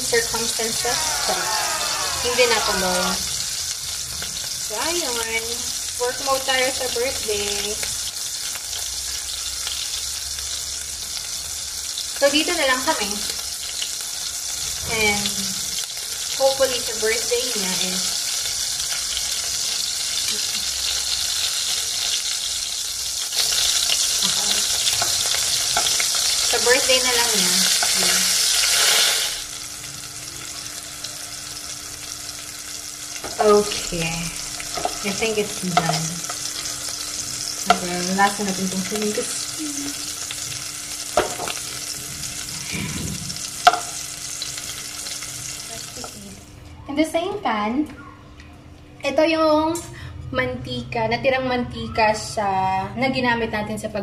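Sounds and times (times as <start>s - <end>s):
chicken sizzling in oil: 0.0s - 46.5s.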